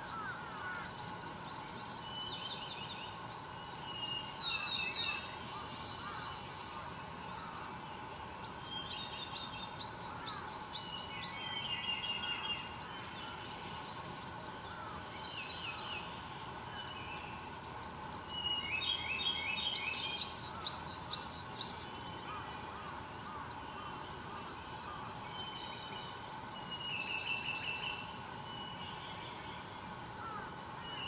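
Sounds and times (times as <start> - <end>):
faint steady hum: 0.0 - 31.0
songbirds singing: 0.0 - 31.0.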